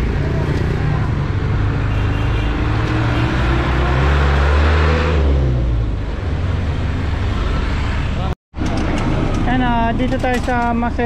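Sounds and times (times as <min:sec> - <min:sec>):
vehicle engine passing: 0:00.0 - 0:09.8
street traffic: 0:00.0 - 0:11.0.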